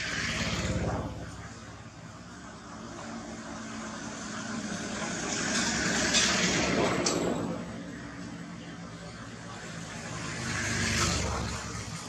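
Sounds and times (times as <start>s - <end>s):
passing motor traffic rushing: 0.0s - 12.0s.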